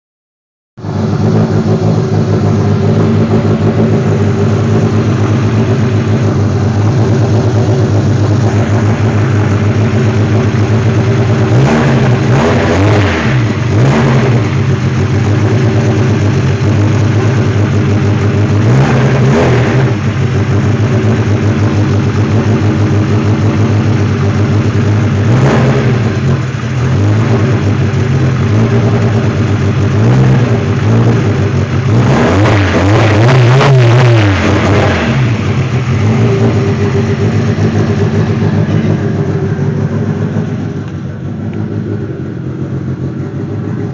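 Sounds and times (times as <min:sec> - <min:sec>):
car engine idling and revving: 0:00.8 - 0:43.9.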